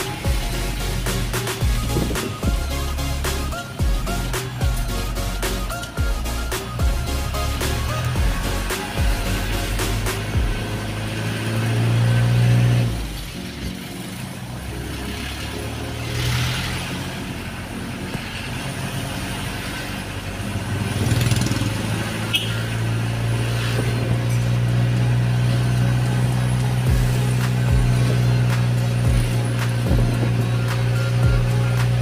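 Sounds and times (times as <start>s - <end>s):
truck engine drone from cab: 0.0s - 32.0s.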